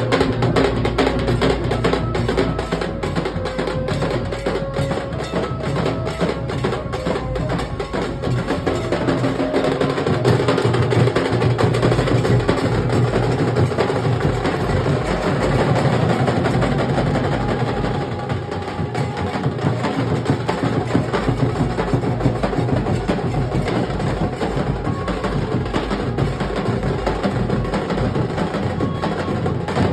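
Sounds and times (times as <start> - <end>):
dhol drums fast rhythm: 0.0 - 29.9.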